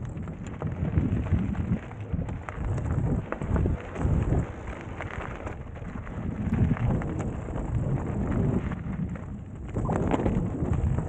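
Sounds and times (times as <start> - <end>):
bike rumbling and rattling: 0.0 - 11.0
stones clicking under tyres: 0.0 - 11.0
wind buffeting microphone: 0.0 - 11.0.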